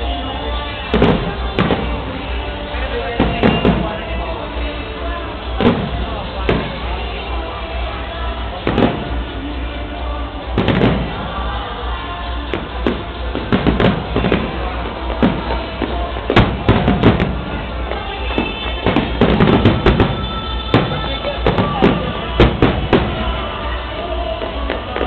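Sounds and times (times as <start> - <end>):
fireworks exploding: 0.0 - 25.0
music playing: 0.0 - 25.0.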